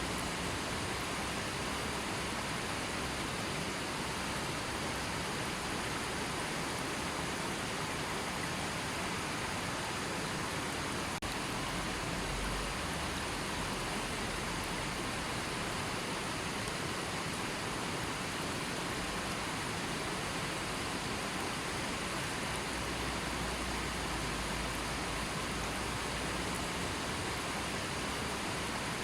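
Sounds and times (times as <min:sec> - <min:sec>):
river water flowing: 0:00.0 - 0:29.0.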